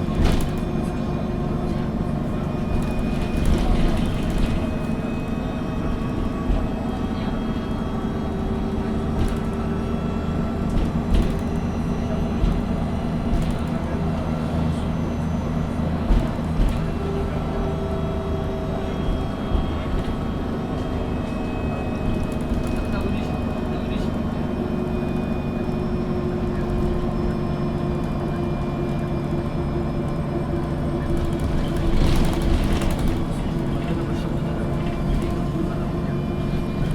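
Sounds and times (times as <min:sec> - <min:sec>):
bus body rattling: 0:00.0 - 0:36.9
bus engine drone: 0:00.0 - 0:36.9.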